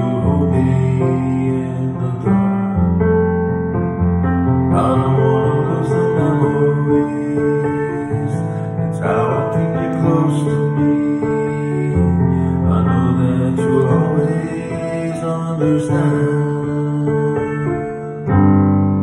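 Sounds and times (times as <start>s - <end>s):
slow ballad instrumental chords: 0.0s - 19.0s.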